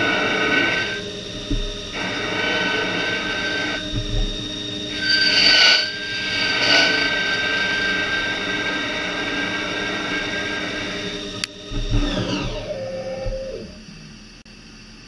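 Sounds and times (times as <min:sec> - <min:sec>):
machine tool high whine: 0:00.0 - 0:15.0.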